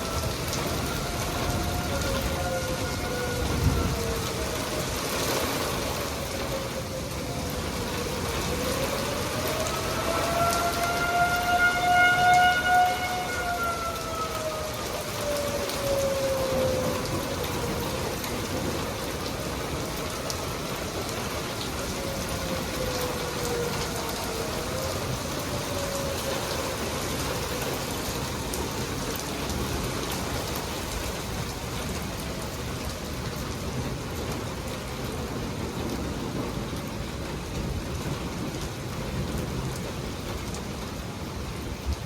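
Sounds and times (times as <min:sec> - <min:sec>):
distant warning siren: 0:00.0 - 0:42.0
heavy rain pouring: 0:00.0 - 0:42.0.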